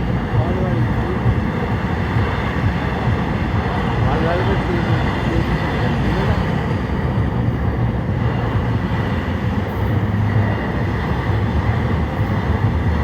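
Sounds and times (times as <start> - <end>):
train rumbling past platform: 0.0 - 13.0.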